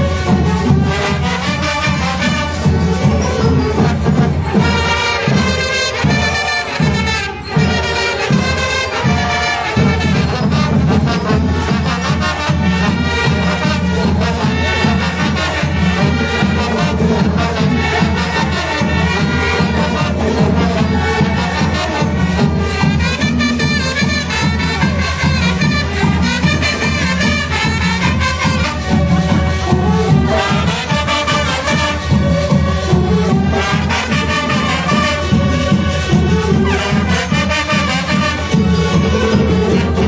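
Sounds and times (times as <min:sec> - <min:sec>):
brass band playing: 0:00.0 - 0:40.0.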